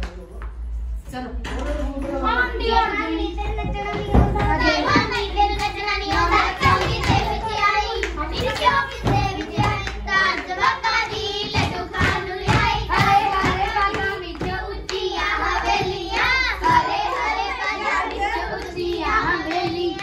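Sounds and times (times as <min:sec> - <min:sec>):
rhythmic handclapping: 0:00.0 - 0:00.6, 0:01.5 - 0:20.0
girls singing together: 0:01.5 - 0:20.0.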